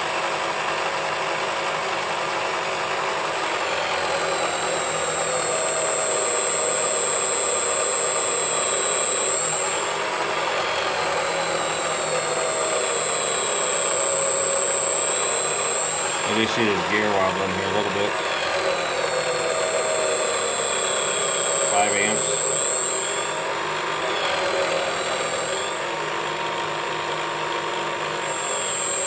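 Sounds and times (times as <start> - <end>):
electric motor whirring with high whine: 1.4 - 29.0.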